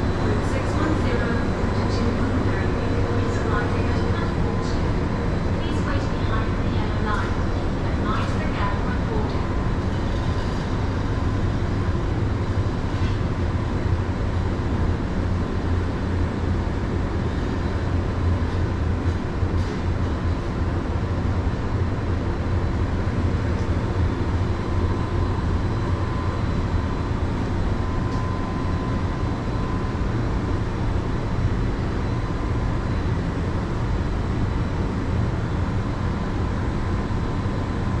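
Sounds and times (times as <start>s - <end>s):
train low hum and rumble: 0.0s - 38.0s.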